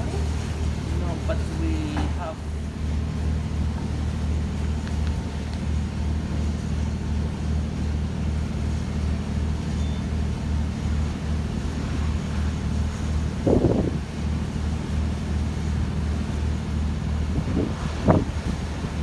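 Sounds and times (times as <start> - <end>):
machine droning: 0.0 - 19.0.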